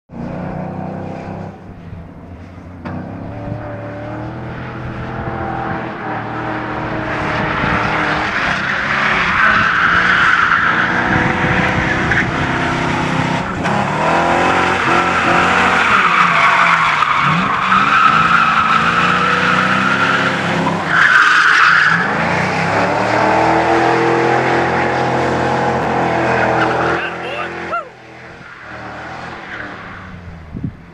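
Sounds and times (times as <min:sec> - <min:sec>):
car engine revving: 0:00.1 - 0:30.6.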